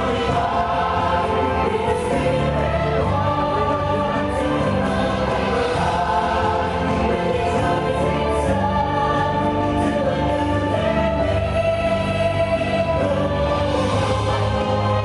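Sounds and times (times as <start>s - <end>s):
choir singing held chords: 0.0s - 15.0s
orchestral music: 0.0s - 15.0s.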